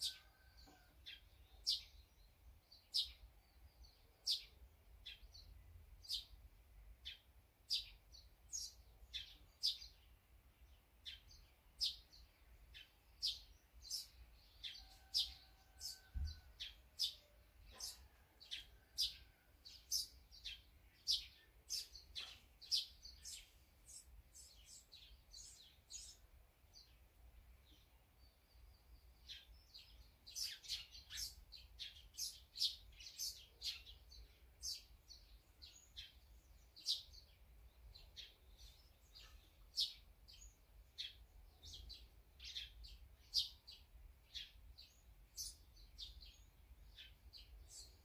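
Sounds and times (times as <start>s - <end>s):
small songbirds chirping: 0.0s - 48.0s.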